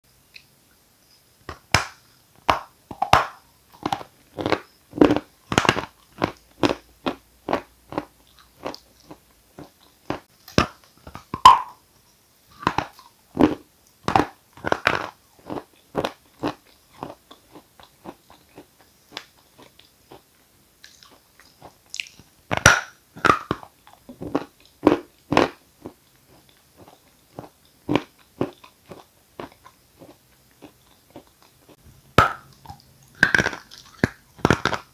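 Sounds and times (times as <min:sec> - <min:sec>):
chalk crunching while chewed: 0:02.9 - 0:11.8, 0:12.6 - 0:34.9.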